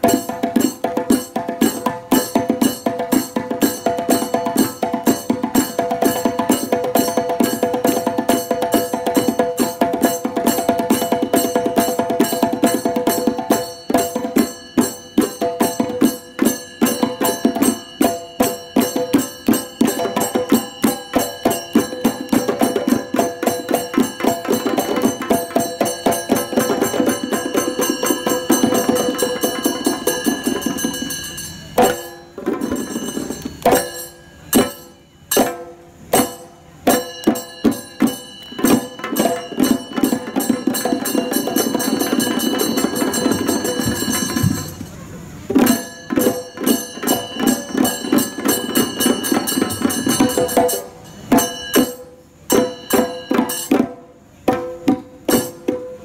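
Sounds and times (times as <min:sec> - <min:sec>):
hand drums playing fast rhythm: 0:00.0 - 0:44.9, 0:45.5 - 0:56.0
ringing brass cymbals: 0:00.0 - 0:54.4.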